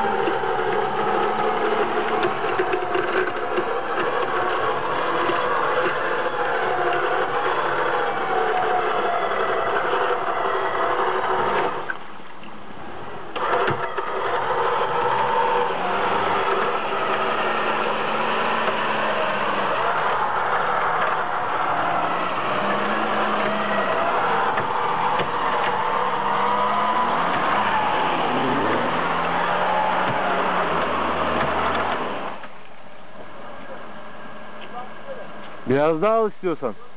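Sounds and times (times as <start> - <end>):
car engine running under load: 0.0 - 36.9.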